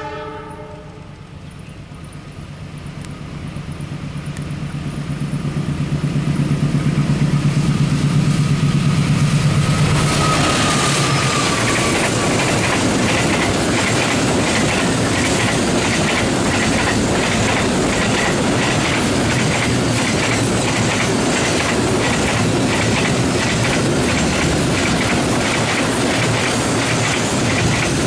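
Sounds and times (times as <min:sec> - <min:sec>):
train wheels clattering on rails: 0:01.2 - 0:28.0.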